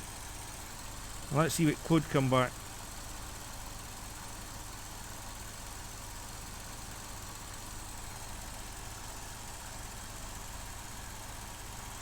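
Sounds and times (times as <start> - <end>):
car engine idling with misfire: 0.0 - 12.0.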